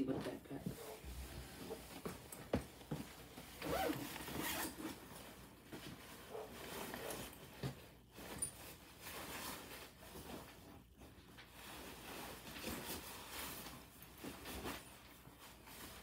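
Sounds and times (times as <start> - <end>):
quilted jacket rustling: 0.7 - 16.0.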